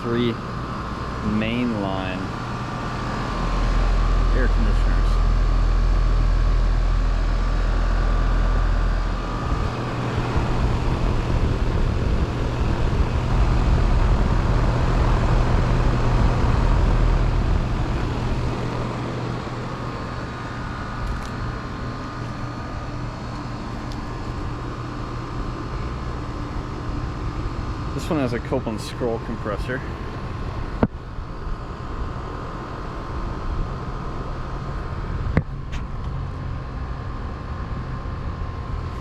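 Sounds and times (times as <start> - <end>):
air conditioner units humming: 0.0 - 39.0
heavy low rumble: 0.0 - 39.0.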